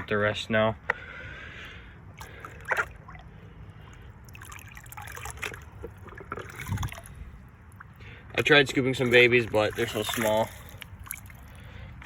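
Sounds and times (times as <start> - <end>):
water trickling and splashing: 1.8 - 12.0.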